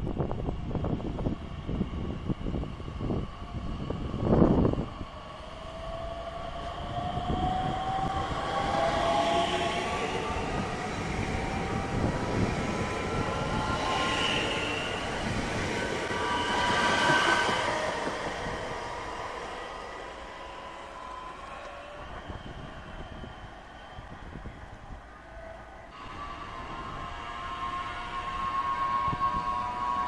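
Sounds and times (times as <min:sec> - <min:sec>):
electric train traction whine: 0:00.1 - 0:30.0.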